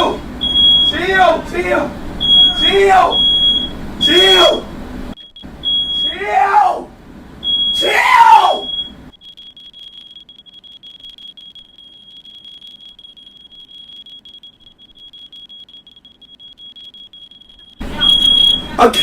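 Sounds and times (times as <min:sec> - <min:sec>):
smoke alarm tone: 0:00.0 - 0:06.4, 0:07.4 - 0:19.0.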